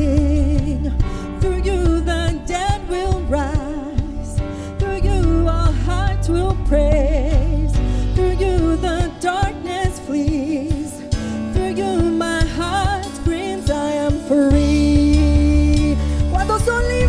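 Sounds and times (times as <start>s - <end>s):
bass guitar: 0.0s - 17.0s
church band with guitars: 0.0s - 17.0s
woman singing with vibrato: 0.0s - 17.0s.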